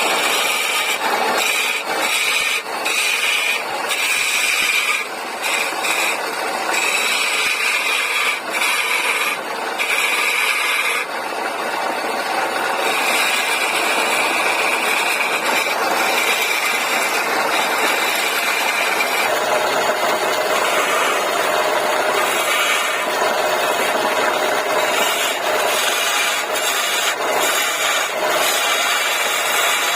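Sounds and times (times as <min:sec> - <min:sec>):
lathe tool cutting wood: 0:00.0 - 0:29.9.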